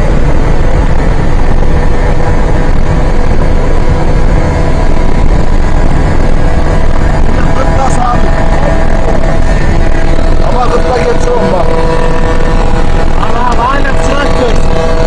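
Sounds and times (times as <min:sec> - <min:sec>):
faint engine hum: 0:00.0 - 0:15.0
road and wind rumble: 0:00.0 - 0:15.0.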